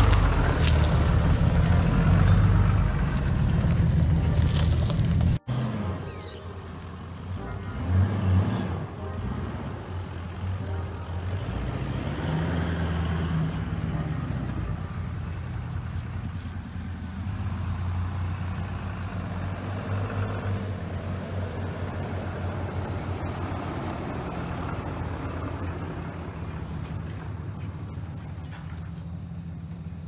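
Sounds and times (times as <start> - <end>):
truck engines running: 0.0 - 30.0.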